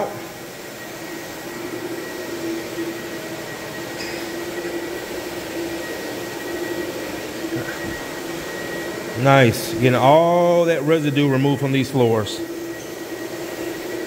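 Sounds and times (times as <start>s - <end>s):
vacuum humming: 0.0s - 14.0s.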